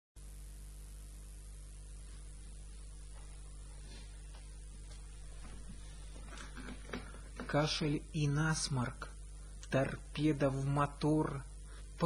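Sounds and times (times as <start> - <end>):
electrical mains hum: 0.2 - 12.0.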